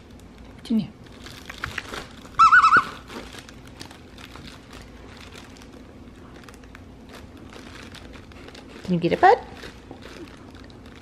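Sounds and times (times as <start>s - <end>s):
toy box crinkling and rustling: 1.0s - 11.0s.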